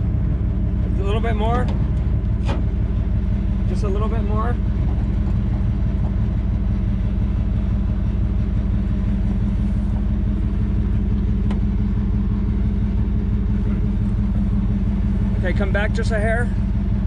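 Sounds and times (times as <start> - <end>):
pickup truck engine idling: 0.0 - 17.0.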